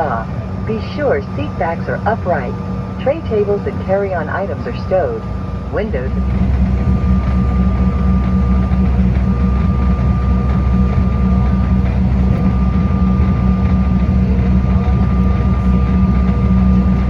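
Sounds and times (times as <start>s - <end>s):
high engine whine: 0.0s - 17.0s
jet engine cabin hum: 0.0s - 17.0s.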